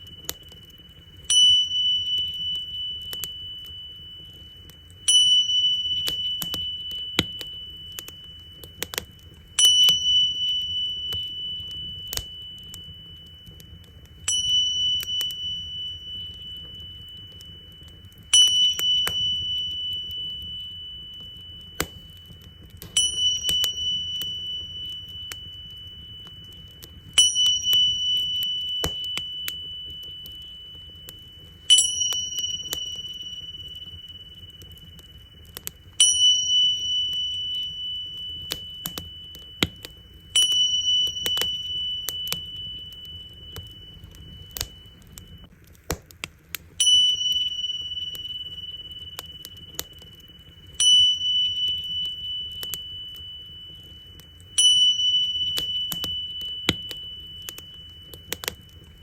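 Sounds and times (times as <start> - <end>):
small cymbals ringing: 0.0 - 45.6, 46.7 - 59.0
wood fire crackling: 0.0 - 59.0.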